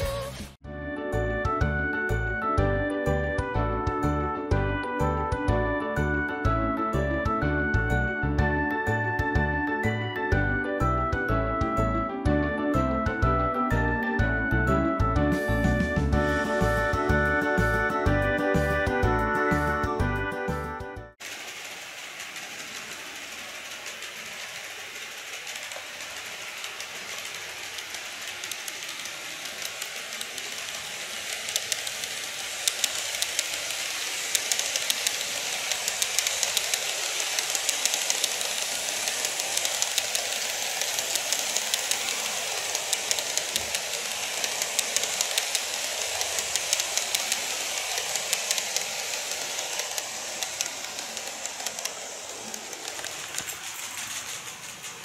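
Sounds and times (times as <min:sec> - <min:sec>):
model train rolling on track: 0:01.0 - 0:55.0.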